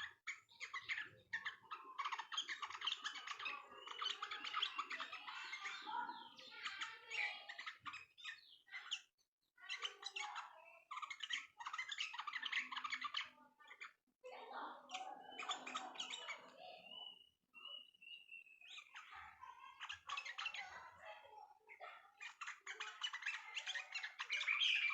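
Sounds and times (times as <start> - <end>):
bird chattering rapid chirps: 0.0 - 14.0, 14.9 - 19.1, 21.7 - 24.9.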